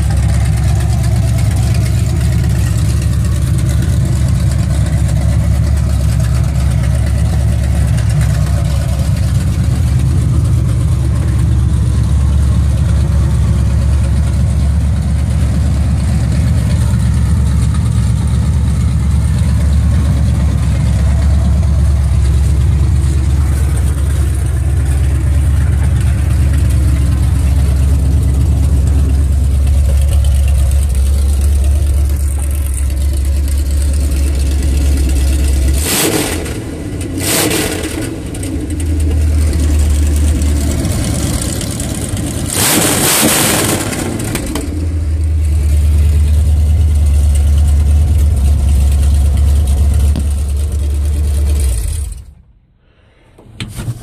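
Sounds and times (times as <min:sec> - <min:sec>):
truck engine idling and revving: 0:00.0 - 0:52.8.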